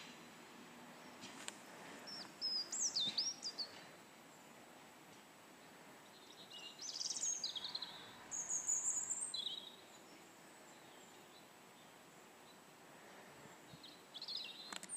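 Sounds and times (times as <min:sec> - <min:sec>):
faint outdoor hiss: 0:00.0 - 0:14.9
songbirds chirping and trilling: 0:00.0 - 0:14.9.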